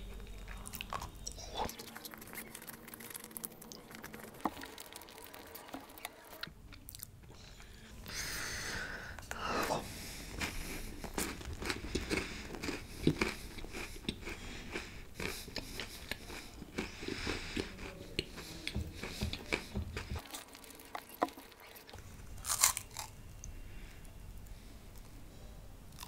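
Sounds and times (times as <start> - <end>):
close chewing with crunches: 0.0 - 7.7, 9.8 - 23.2.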